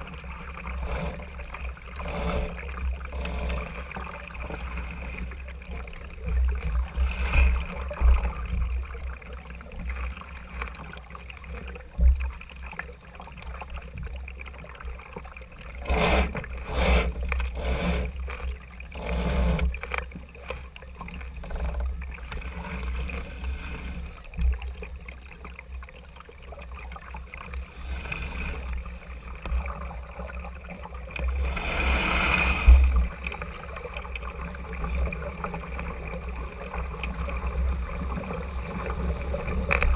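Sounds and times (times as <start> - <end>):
water splashing against boat hull: 0.0 - 27.8, 28.5 - 39.9
constant low rumble: 0.0 - 39.9.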